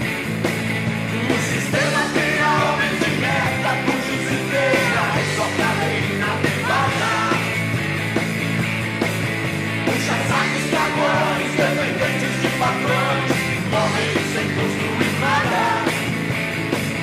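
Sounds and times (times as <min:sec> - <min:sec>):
blues-rock band music: 0:00.0 - 0:17.0.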